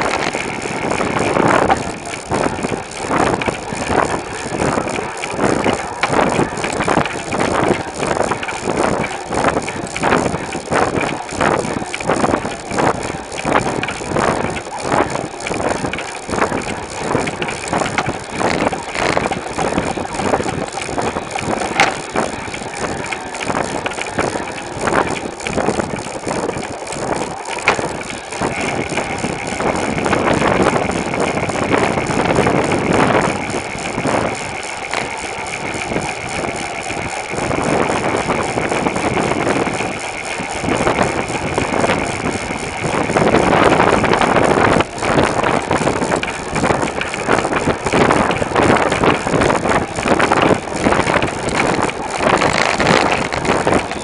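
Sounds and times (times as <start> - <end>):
bike rattles and clicks: 0.0 - 54.0
road noise: 0.0 - 54.0
wind rushing over microphone: 0.0 - 54.0.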